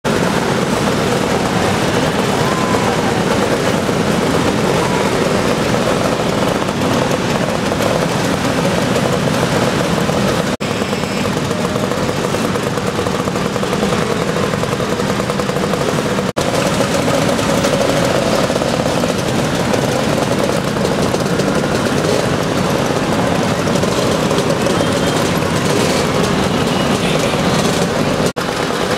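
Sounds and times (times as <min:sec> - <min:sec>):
motor scooter engines droning: 0:00.0 - 0:28.9.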